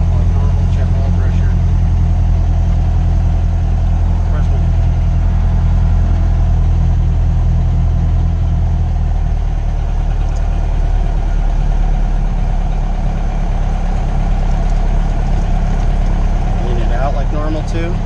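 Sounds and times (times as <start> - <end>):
aircraft engine and propeller idling: 0.0 - 18.0.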